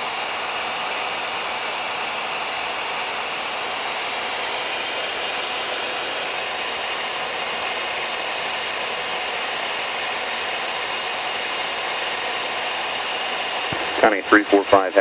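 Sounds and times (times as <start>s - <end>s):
airplane engine drone in cabin: 0.0s - 15.0s.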